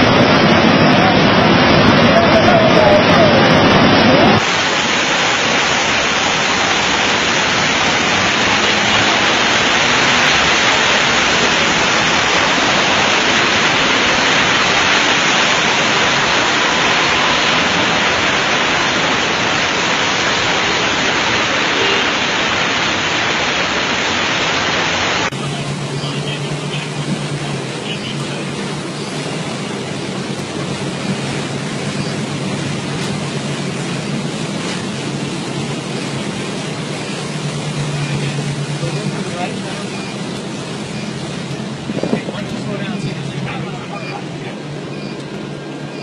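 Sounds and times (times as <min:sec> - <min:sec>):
floodwater rushing: 0:00.0 - 0:46.0.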